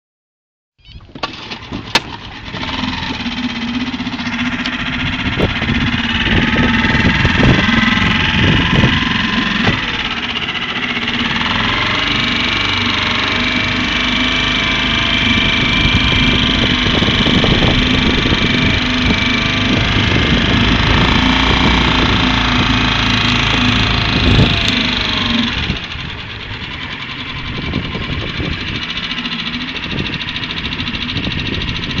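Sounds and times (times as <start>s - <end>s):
outboard motor running: 0.8s - 32.0s.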